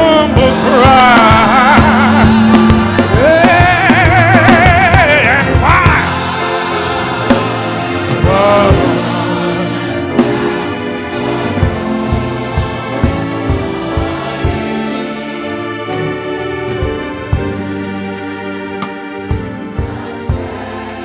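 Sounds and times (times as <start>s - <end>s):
voices singing with vibrato: 0.0s - 16.3s, 19.3s - 21.0s
sustained instrumental accompaniment: 0.0s - 21.0s.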